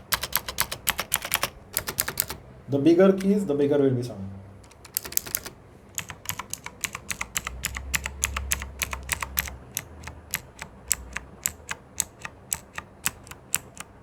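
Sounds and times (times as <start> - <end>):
mechanical keyboard key clacks: 0.0 - 2.4, 4.6 - 14.0.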